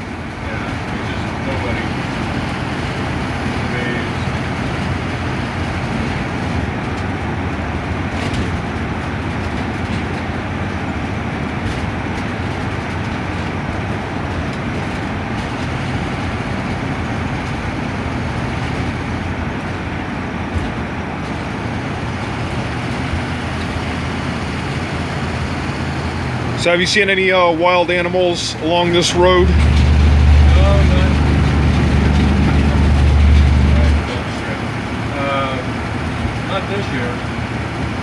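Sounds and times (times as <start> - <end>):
bus engine drone: 0.0 - 38.0
road and tyre noise: 0.0 - 38.0.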